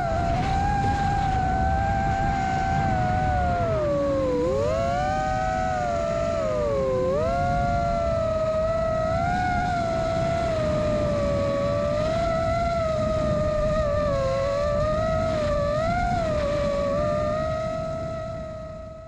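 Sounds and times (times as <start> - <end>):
quadcopter motors whining: 0.0 - 19.0
wind rumble on microphone: 0.0 - 19.0.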